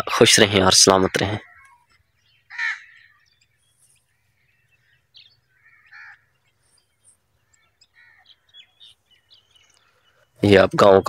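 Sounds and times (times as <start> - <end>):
bird harsh call: 0.9 - 11.0.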